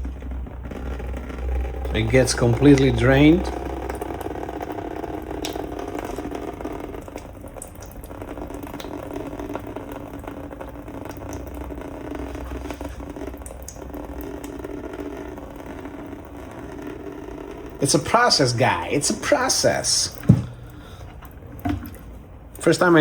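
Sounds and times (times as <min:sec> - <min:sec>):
liquid trickling into a bucket: 0:00.0 - 0:23.0.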